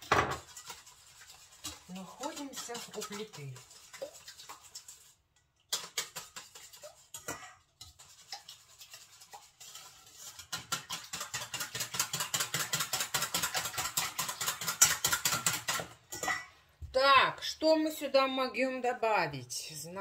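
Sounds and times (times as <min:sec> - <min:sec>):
whisk clinking in metal bowl: 0:00.0 - 0:16.5.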